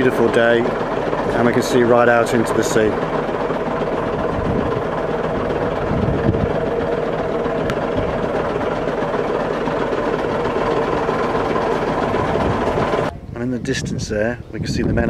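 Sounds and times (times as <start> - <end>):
engine idling: 0.0 - 13.2.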